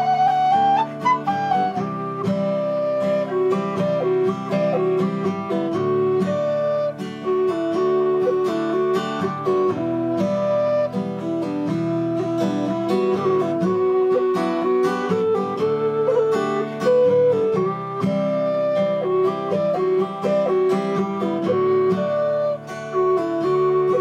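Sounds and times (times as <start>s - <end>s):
acoustic guitar picked and strummed: 0.0s - 24.0s
whistle melody: 0.0s - 24.0s.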